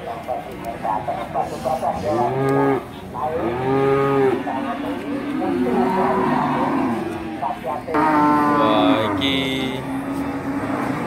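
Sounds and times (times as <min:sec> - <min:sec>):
cattle mooing: 0:02.0 - 0:11.0.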